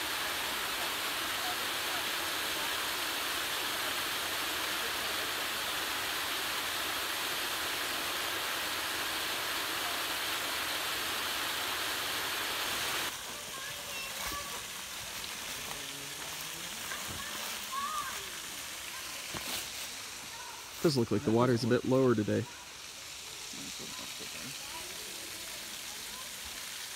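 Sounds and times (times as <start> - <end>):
small waterfall trickling: 0.0 - 26.9
waterfall rushing: 0.0 - 26.9.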